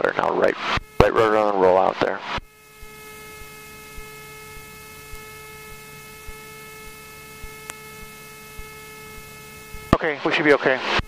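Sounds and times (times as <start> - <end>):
electrical hum: 0.0 - 11.0
high whine: 0.0 - 11.0.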